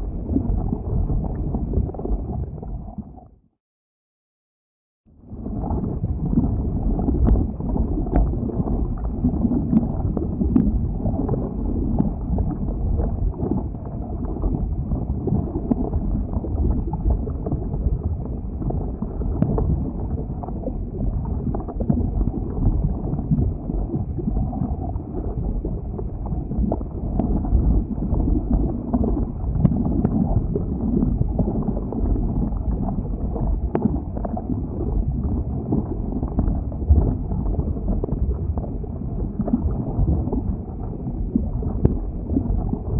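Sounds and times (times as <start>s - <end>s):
lava rumbling: 0.0s - 3.2s, 5.3s - 42.9s.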